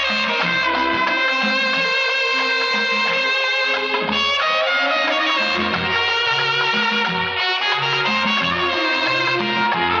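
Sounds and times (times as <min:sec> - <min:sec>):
film song instrumental with brass: 0:00.0 - 0:10.0.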